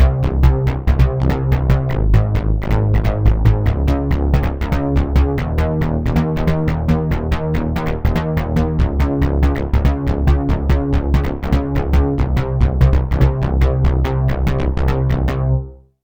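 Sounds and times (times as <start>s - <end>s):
synthesizer sequenced pattern: 0.0s - 15.6s
sustained synth bass: 0.0s - 15.8s.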